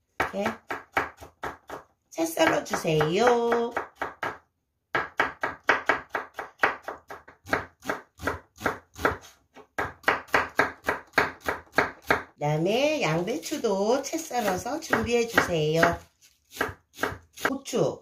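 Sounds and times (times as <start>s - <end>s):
knife chopping on wooden board: 0.2s - 12.3s, 14.4s - 17.6s.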